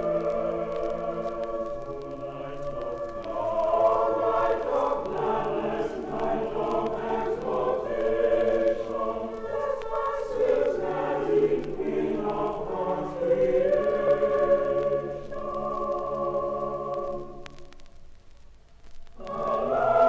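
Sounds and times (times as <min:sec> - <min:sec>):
boys choir singing a carol: 0:00.0 - 0:17.6, 0:19.2 - 0:20.0.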